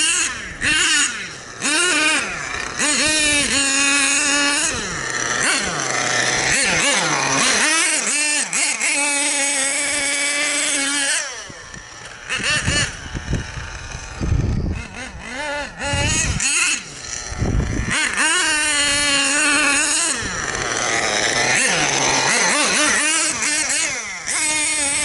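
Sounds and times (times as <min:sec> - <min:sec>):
small nitro engine revving: 0:00.0 - 0:25.0.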